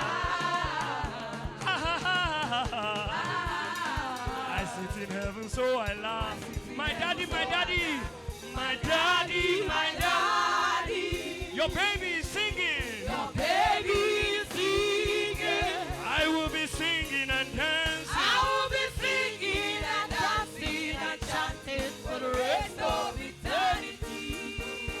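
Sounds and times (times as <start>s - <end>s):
band with steady drum beat: 0.0s - 25.0s
voices singing gospel: 0.0s - 25.0s.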